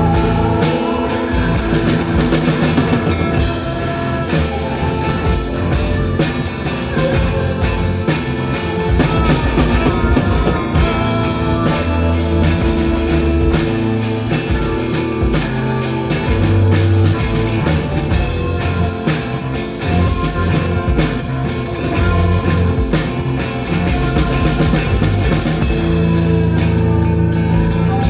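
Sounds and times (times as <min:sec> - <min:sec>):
bass notes: 0:00.0 - 0:28.0
drum kit beat: 0:00.0 - 0:28.0
guitar: 0:00.0 - 0:28.0.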